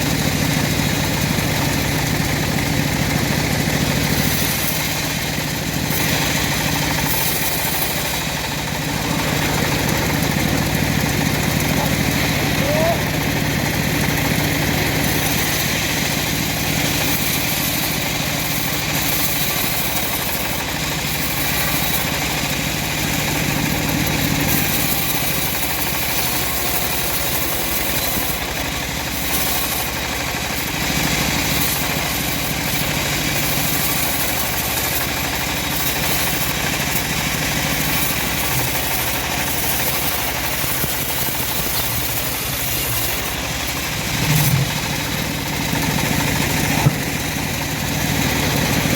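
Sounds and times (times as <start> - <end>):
bandsaw mill cutting wood: 0.0 - 48.9.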